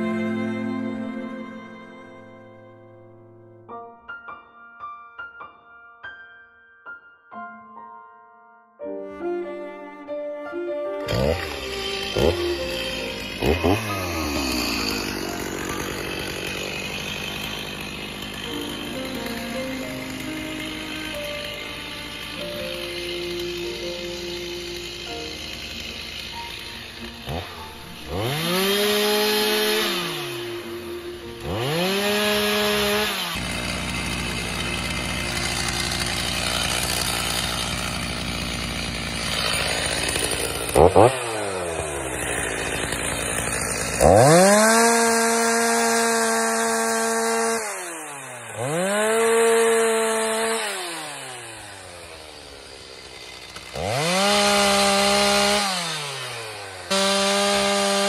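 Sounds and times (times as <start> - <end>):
chainsaw cutting log: 0.0 - 2.0, 9.6 - 58.0.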